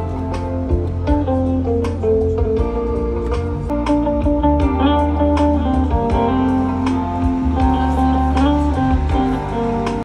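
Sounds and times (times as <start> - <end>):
deep bass: 0.0 - 10.0
guitar plucked and strummed: 0.0 - 10.0.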